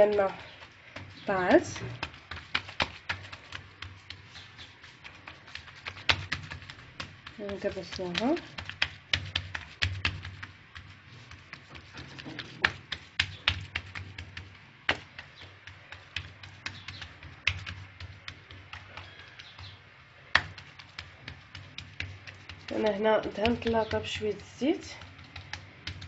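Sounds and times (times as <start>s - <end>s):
hands patting dough on stone: 0.0s - 26.0s.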